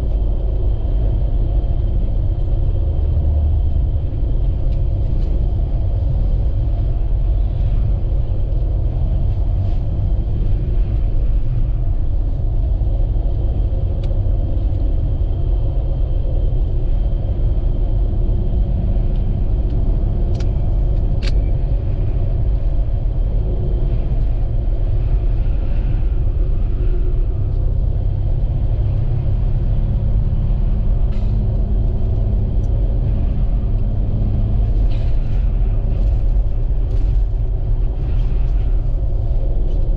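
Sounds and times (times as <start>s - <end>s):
vehicle driving on snowy road: 0.0s - 39.9s.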